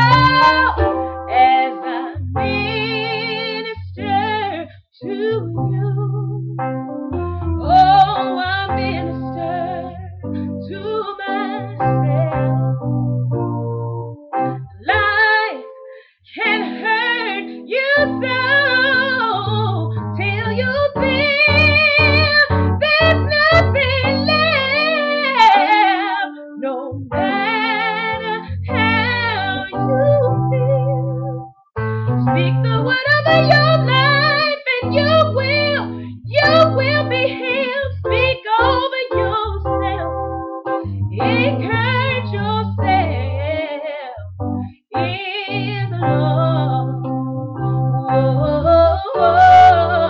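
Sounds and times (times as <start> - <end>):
woman singing with vibrato: 0.0 - 6.2, 7.6 - 12.6, 14.8 - 31.3, 32.4 - 40.1, 41.2 - 44.3, 45.0 - 47.0, 48.0 - 50.0
keyboard chords: 0.0 - 50.0.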